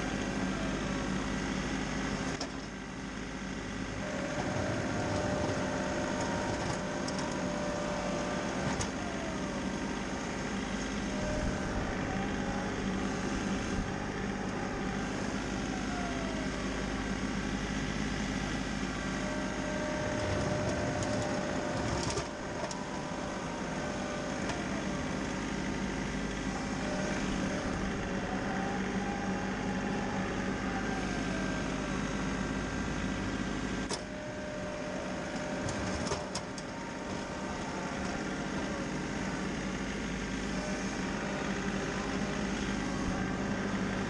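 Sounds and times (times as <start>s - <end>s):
engine running: 0.0s - 44.0s
faint whine: 4.0s - 44.0s.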